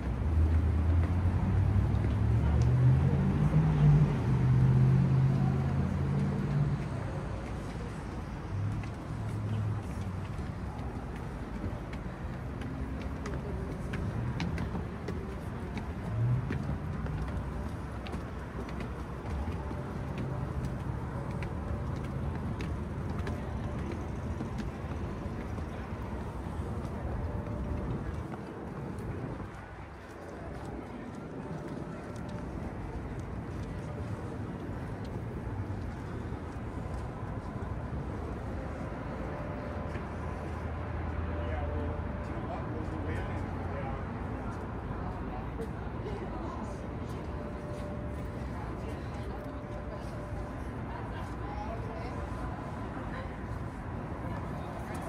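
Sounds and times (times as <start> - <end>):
street traffic: 0.0 - 55.0.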